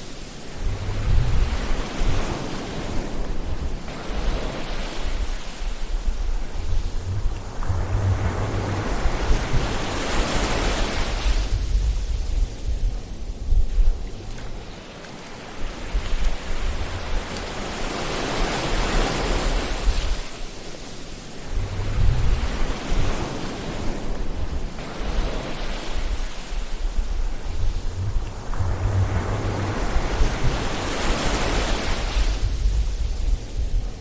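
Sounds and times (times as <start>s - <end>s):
low rumble of breaking waves: 0.0s - 34.0s
ocean waves breaking on shore: 0.0s - 34.0s.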